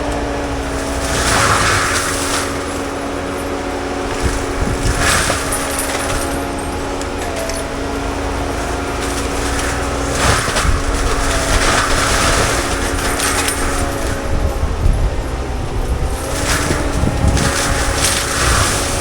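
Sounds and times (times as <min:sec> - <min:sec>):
debris crunching and clattering: 0:00.0 - 0:19.0
diesel engine and mulcher hum: 0:00.0 - 0:19.0.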